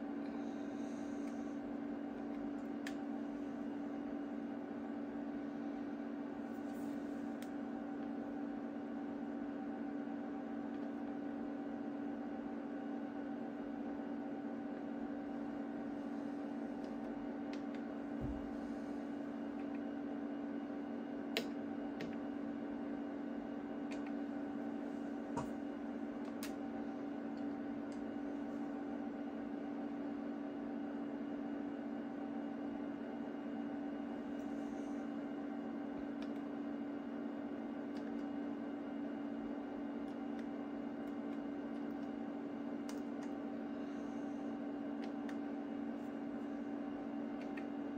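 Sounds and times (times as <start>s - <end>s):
cooling fans humming: 0.0s - 47.9s.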